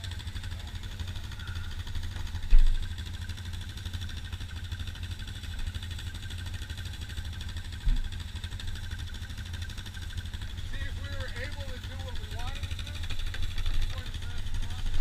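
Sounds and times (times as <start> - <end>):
atv engines idling: 0.0 - 15.0.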